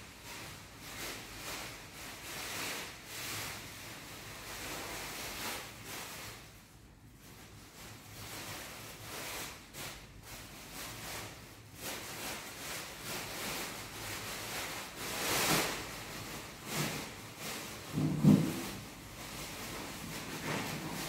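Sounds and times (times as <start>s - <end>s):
rustling and swishing: 0.0s - 21.0s.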